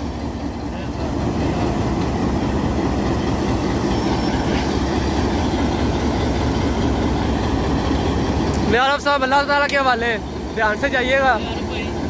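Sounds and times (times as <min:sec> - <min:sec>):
diesel locomotive engine running: 0:00.0 - 0:12.0
train wheels rolling on rails: 0:00.0 - 0:12.0.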